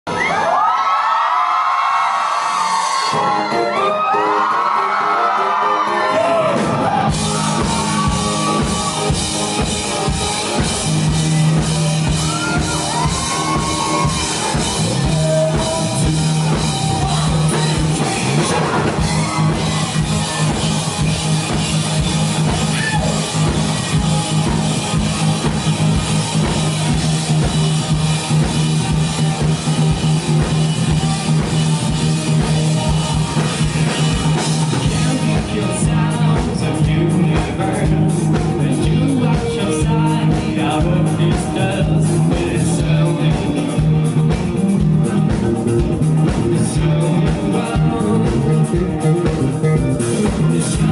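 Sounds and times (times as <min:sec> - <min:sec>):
bass line: 0:02.9 - 0:50.9
guitars: 0:03.0 - 0:50.9
drum kit beat: 0:06.2 - 0:50.9.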